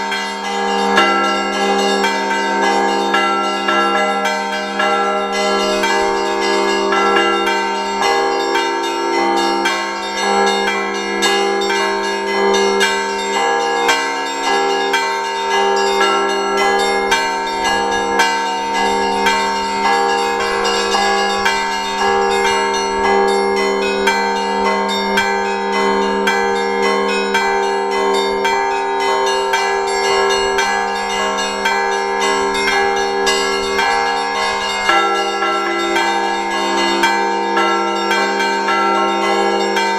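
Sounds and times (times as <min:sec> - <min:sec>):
church bells ringing a peal: 0:00.0 - 0:39.9.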